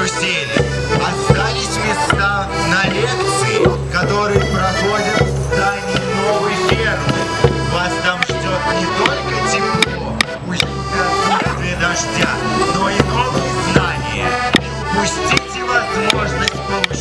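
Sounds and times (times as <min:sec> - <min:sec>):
accordion dance tune: 0:00.0 - 0:17.0
sharp knocks on the beat: 0:00.5 - 0:17.0.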